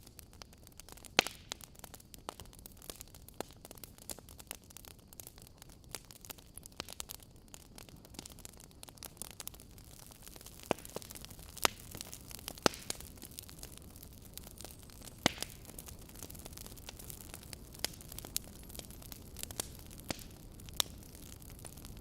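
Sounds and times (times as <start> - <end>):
logs crackling and popping: 0.0 - 22.0
flames rushing: 3.9 - 22.0.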